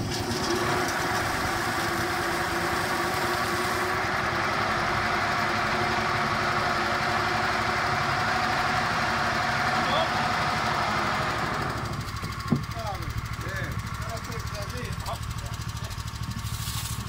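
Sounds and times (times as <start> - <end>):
grape crusher motor humming: 0.0 - 17.0.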